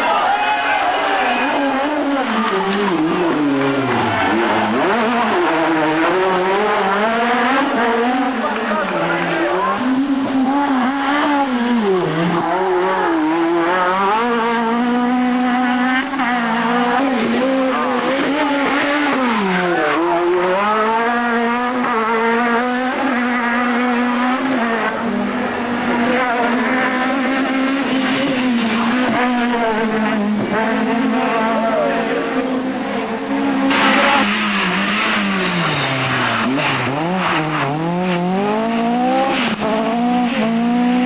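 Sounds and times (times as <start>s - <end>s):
rally car engine at high revs: 0.0s - 41.0s.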